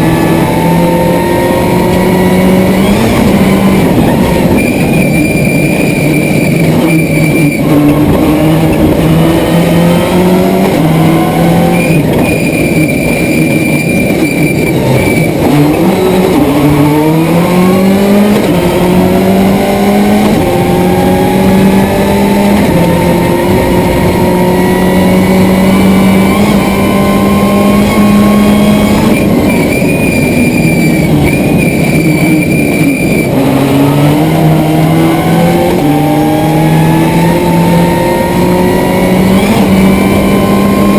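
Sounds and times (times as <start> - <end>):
rally car engine revving: 0.0 - 40.9.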